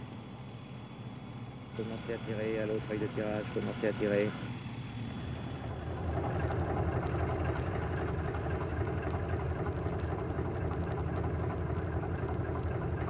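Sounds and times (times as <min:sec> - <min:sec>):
faint steady whine: 0:00.0 - 0:13.0
winch engine running under load: 0:01.8 - 0:13.0.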